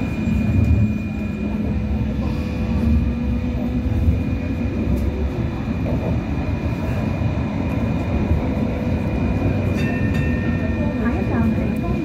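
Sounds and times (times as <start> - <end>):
light rail car rumbling on track: 0.0 - 12.0.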